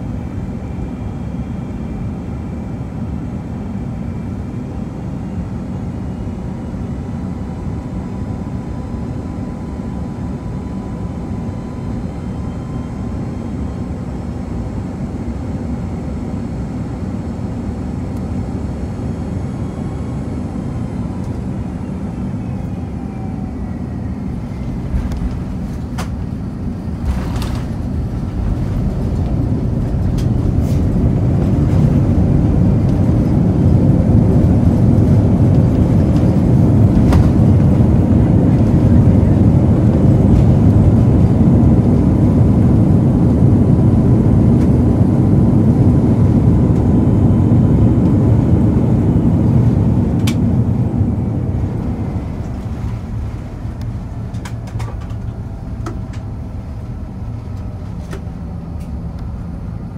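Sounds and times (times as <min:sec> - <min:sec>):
airplane cabin engine rumble: 0:00.0 - 0:59.9
faint falling engine whine: 0:00.0 - 0:59.9.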